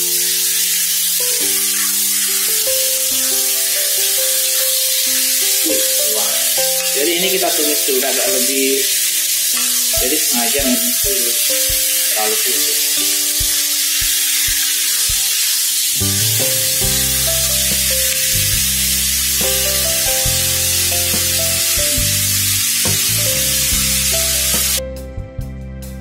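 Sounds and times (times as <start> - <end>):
background music: 0.0 - 8.9, 9.5 - 14.4, 16.0 - 26.0
food sizzling in a wok: 0.0 - 24.8.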